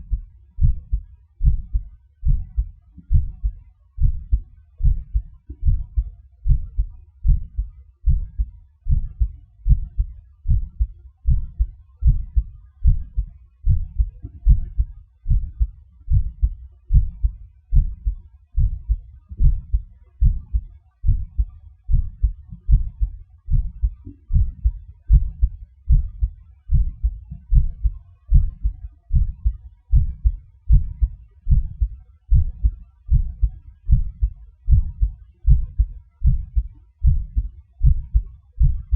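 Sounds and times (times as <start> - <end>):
heartbeat thuds: 0.0 - 38.9.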